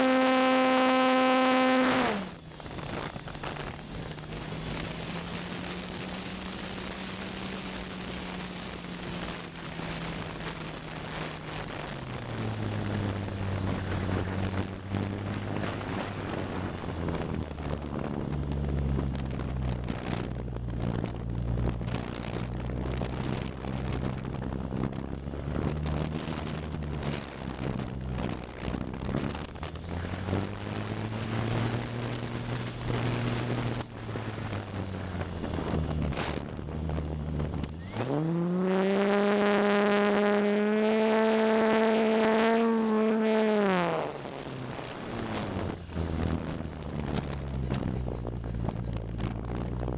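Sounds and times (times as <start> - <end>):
electric motor and propeller hum: 0.0 - 49.9
wind noise on microphone: 0.0 - 49.9.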